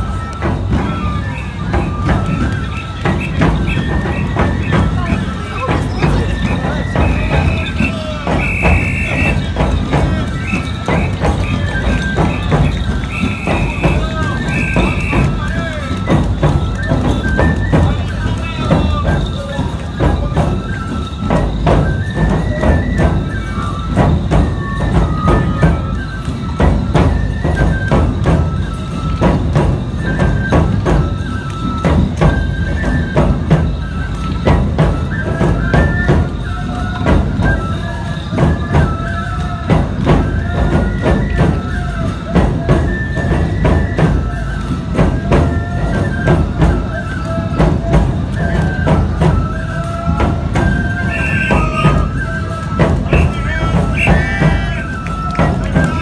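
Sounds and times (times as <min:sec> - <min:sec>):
bamboo flute melody: 0:00.0 - 0:56.0
big drums beating: 0:00.0 - 0:56.0.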